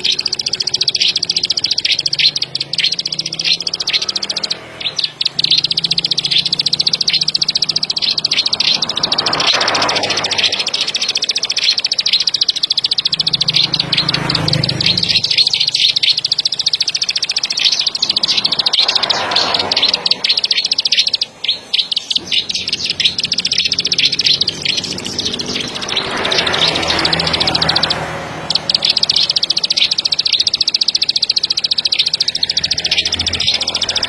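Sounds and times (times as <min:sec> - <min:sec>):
bird singing high trill: 0:00.0 - 0:34.0.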